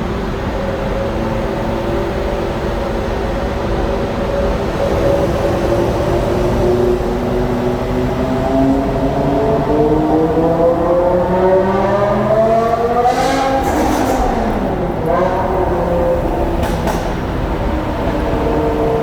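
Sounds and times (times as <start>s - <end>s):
car engine accelerating: 2.1s - 19.0s.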